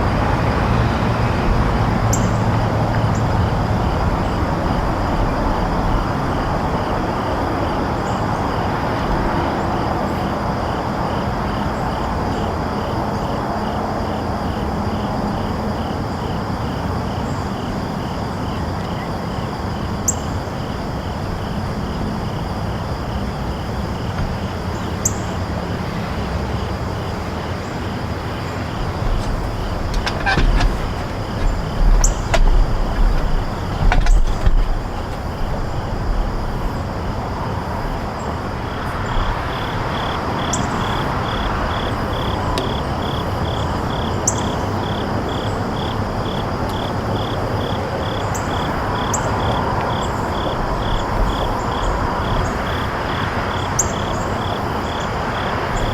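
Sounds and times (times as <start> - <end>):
distant road traffic: 0.0 - 55.9.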